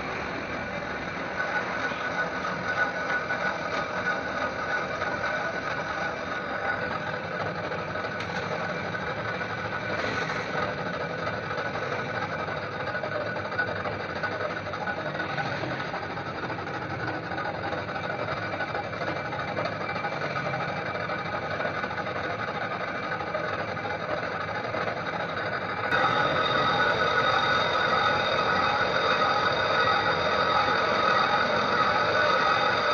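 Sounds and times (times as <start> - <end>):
machine running with held tones: 0.0 - 32.9.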